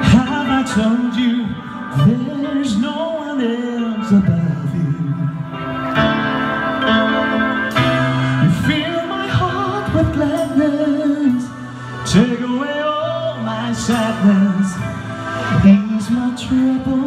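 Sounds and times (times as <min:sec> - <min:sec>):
man singing into a microphone: 0:00.0 - 0:05.7, 0:08.0 - 0:17.0
instrumental backing music: 0:00.0 - 0:17.0.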